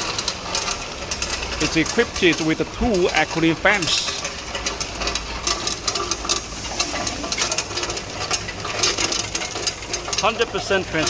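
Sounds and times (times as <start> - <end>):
ice machine humming: 0.0 - 11.0
sharp clicking and clatter: 0.0 - 11.0.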